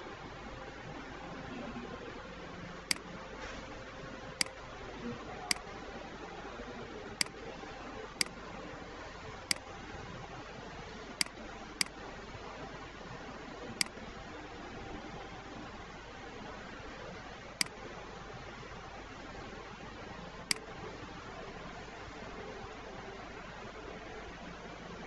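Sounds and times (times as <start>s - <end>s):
low hiss of room noise: 0.0s - 25.0s.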